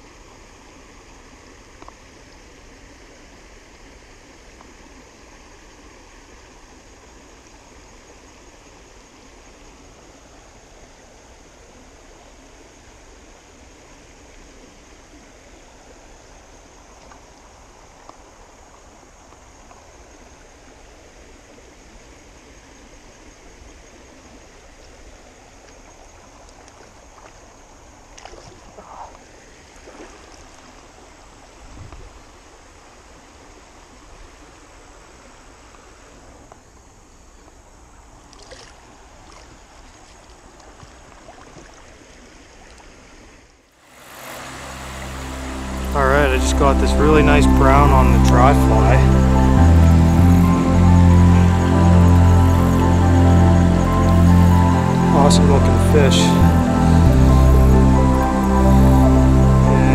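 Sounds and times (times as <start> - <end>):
creek water rushing: 0.0 - 36.8, 37.6 - 59.9.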